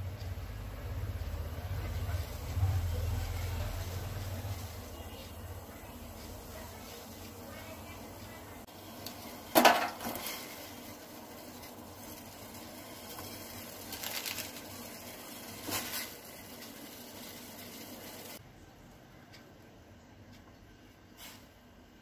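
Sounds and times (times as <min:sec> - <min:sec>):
water boiling in a pot: 0:00.0 - 0:18.4.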